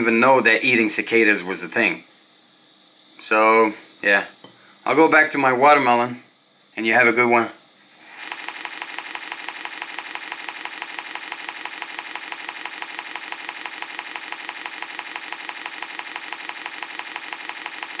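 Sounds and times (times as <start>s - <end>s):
cicada song: 0.0s - 18.0s.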